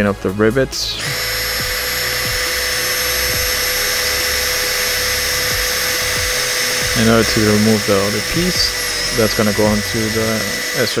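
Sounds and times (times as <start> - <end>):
cordless drill whining: 1.0 - 11.0.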